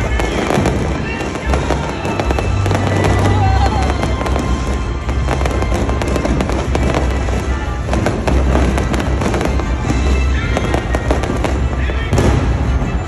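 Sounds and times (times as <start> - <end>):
fireworks crackling and banging: 0.0 - 13.0
music playing: 0.0 - 13.0.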